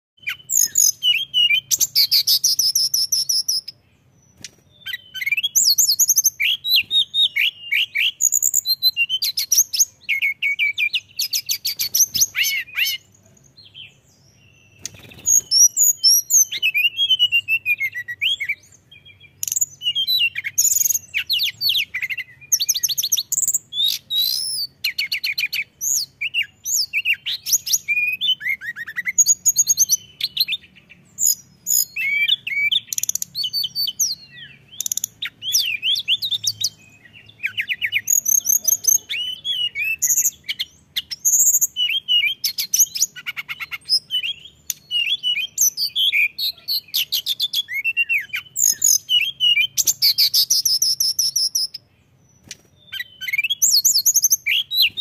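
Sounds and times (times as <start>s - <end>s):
bird singing trills and whistles: 0.2s - 55.0s.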